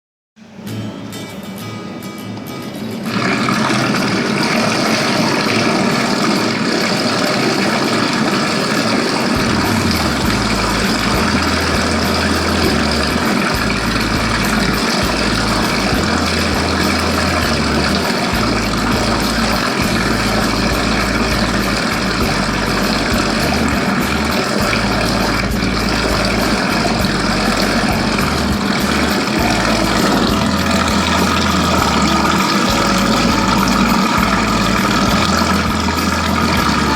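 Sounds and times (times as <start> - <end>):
dough mixer running: 3.0 - 36.9
low hum: 3.1 - 36.9.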